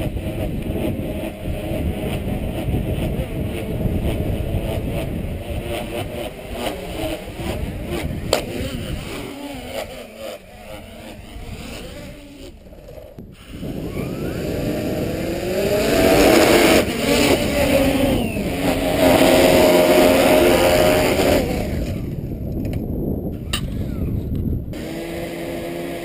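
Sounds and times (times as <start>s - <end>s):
drone motors and propellers whining: 0.0s - 26.0s
wind rumble on microphone: 0.0s - 26.0s.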